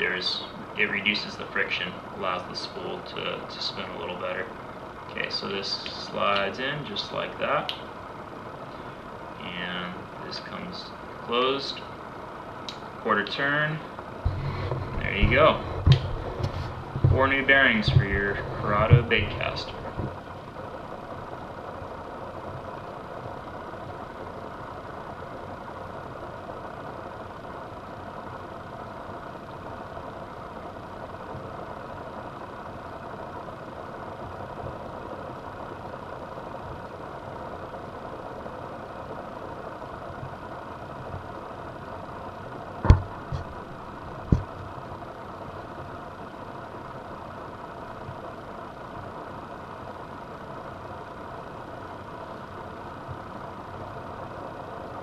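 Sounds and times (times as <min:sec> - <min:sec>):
room noise hum: 0:00.0 - 0:55.0.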